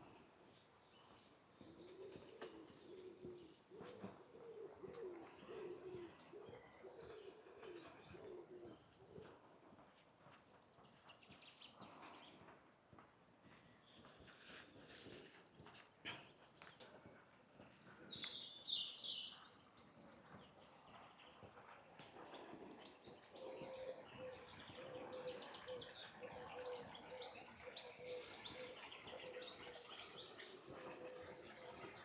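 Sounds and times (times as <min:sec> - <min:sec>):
faint songbirds chirping: 0:00.0 - 0:32.0.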